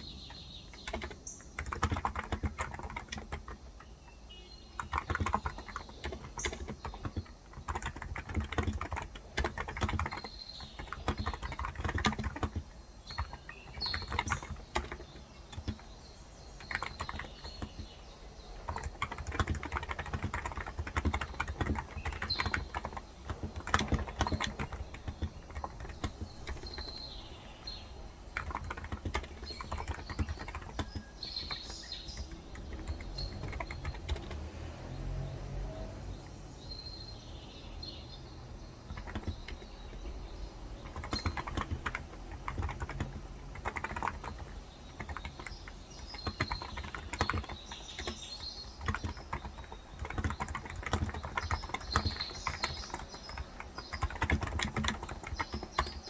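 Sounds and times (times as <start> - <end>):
keyboard typing: 0.0 - 4.0, 4.7 - 34.9, 38.8 - 56.0
birds chirping: 0.0 - 56.0.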